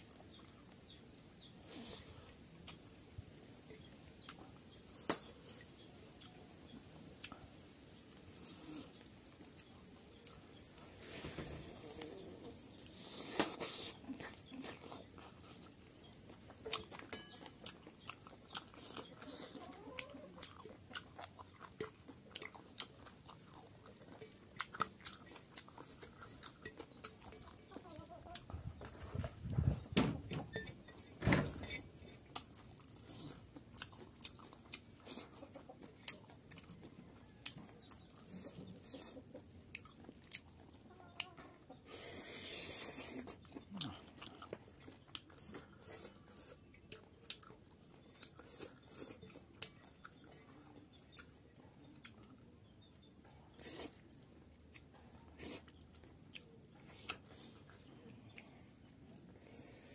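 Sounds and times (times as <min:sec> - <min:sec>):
person chewing food: 0:00.0 - 0:29.6, 0:30.3 - 0:59.9.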